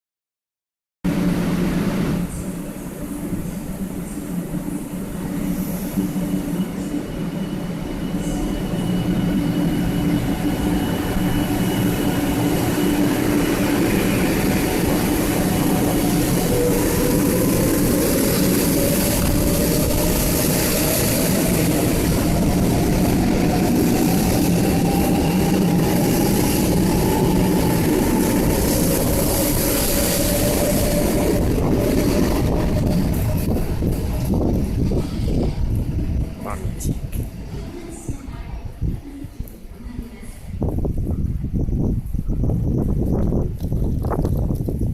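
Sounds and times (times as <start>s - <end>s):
wheels rumbling on rail: 1.1s - 44.9s.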